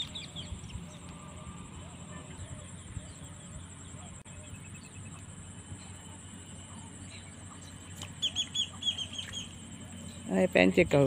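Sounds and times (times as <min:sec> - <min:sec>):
faint bird chirps: 0:00.0 - 0:10.4
high insect trill: 0:00.0 - 0:11.0
low rumble: 0:00.0 - 0:11.0.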